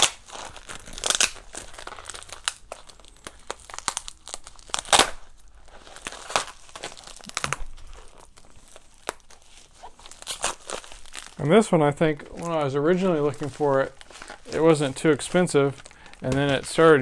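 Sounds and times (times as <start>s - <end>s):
tape and wrapping crinkling and ripping: 0.0s - 17.0s.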